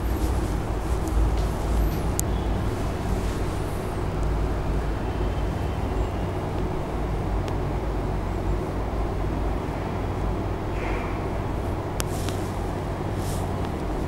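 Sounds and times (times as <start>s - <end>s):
constant hum: 0.0s - 14.0s
low background rumble: 0.0s - 14.0s.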